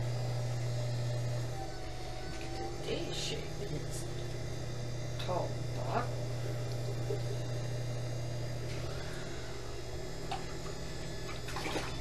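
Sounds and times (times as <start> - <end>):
potter's wheel motor humming: 0.0 - 12.0.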